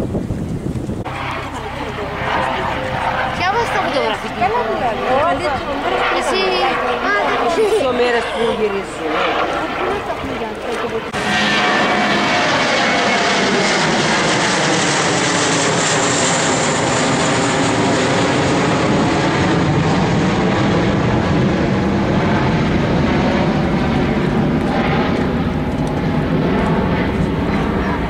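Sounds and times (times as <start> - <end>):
jet airliner roaring overhead: 0.0 - 28.0.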